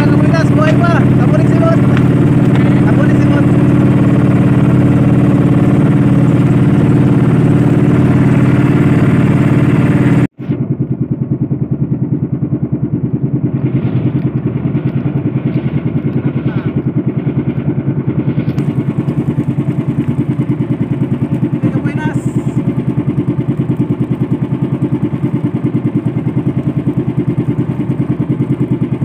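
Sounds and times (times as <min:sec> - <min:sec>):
small boat engine throbbing: 0:00.0 - 0:29.0.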